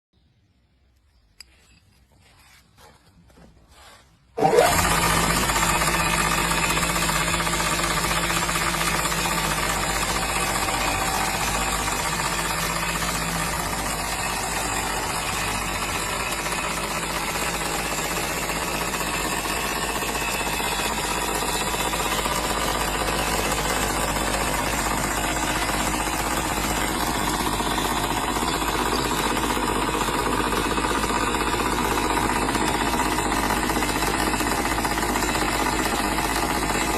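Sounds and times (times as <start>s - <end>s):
belt grinder running: 4.4s - 36.9s.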